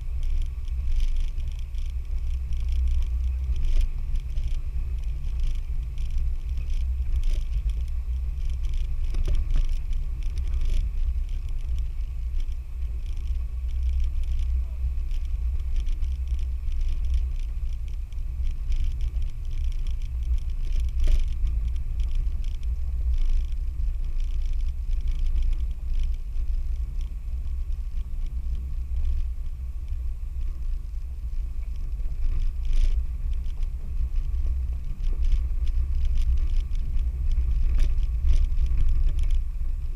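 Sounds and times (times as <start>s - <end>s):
vehicle engine deep rumble: 0.0s - 39.9s.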